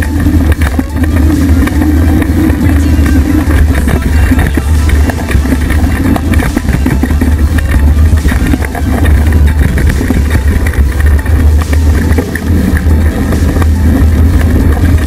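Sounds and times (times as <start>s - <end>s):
bike rattling over trail: 0.0s - 15.0s
wind rumble on camera: 0.0s - 15.0s.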